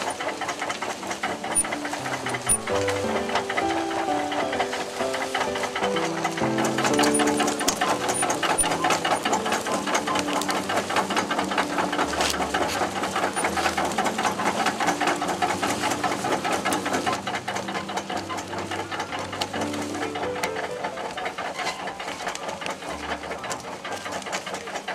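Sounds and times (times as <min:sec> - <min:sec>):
sewing machine clattering: 0:00.0 - 0:24.9.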